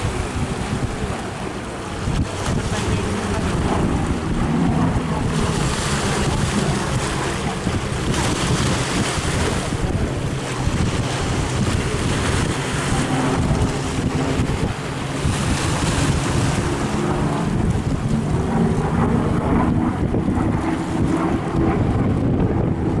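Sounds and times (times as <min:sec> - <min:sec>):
piston aircraft engine droning: 0:00.0 - 0:23.0
wind buffeting microphone: 0:00.0 - 0:23.0.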